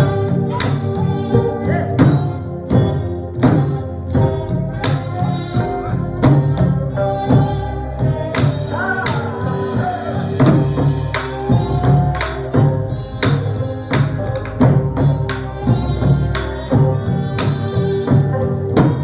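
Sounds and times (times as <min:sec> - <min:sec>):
drum strokes: 0:00.0 - 0:19.0
wind and string instruments: 0:00.0 - 0:19.0.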